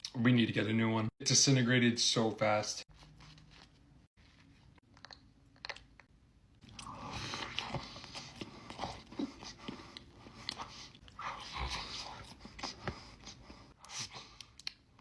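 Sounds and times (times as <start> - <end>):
person chewing food: 3.0 - 15.0.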